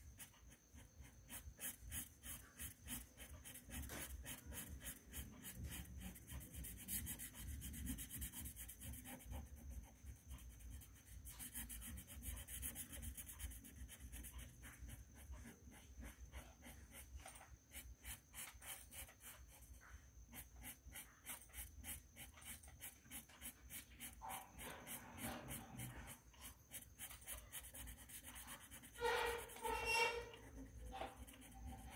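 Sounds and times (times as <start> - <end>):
crayon scratching on paper: 0.0 - 31.9.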